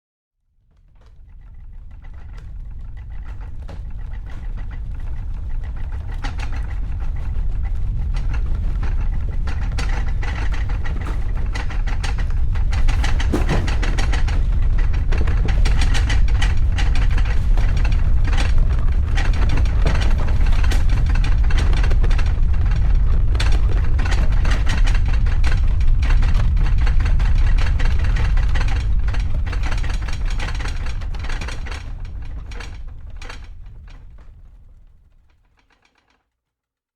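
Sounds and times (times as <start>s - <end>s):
earthquake deep rumble: 0.6s - 35.4s
furniture shaking and rattling: 0.7s - 35.8s.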